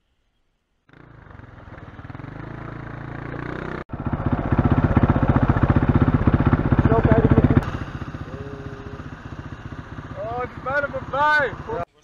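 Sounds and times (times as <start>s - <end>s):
quad bike engine revving: 0.9s - 11.9s.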